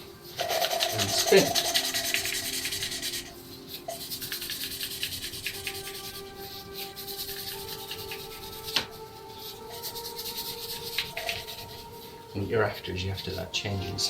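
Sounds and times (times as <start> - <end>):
gritty valve lapping rubbing: 0.0 - 13.5
steady ringing note: 0.0 - 14.0.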